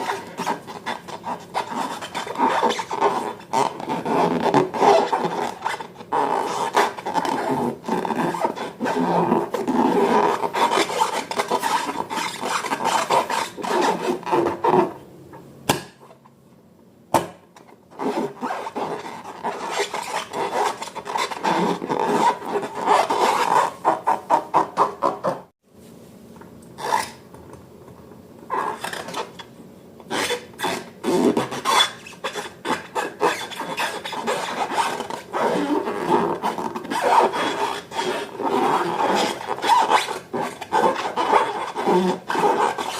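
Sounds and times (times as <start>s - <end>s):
balloons and slime rubbed by hand: 0.0s - 15.0s, 17.9s - 25.5s, 30.1s - 42.9s.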